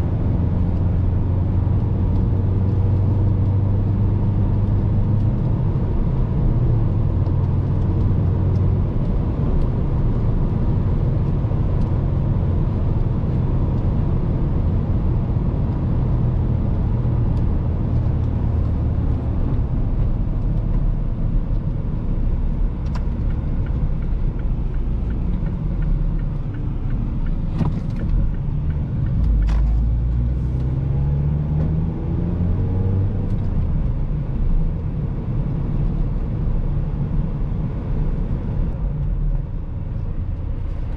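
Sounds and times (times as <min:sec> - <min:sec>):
car engine cruising: 0:00.0 - 0:40.9
tyres on road: 0:00.0 - 0:40.9.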